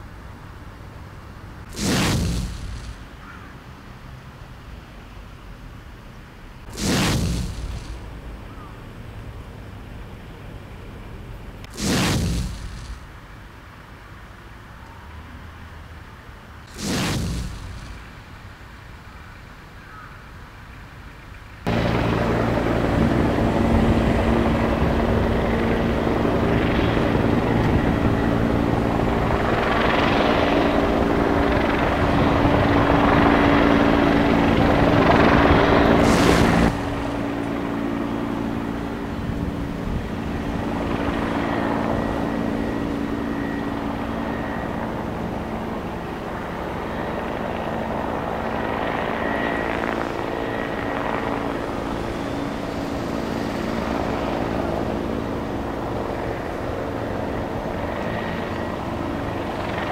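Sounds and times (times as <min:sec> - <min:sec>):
helicopter flying: 0:01.3 - 0:03.8, 0:06.4 - 0:13.4, 0:16.6 - 0:18.7, 0:21.6 - 0:59.9.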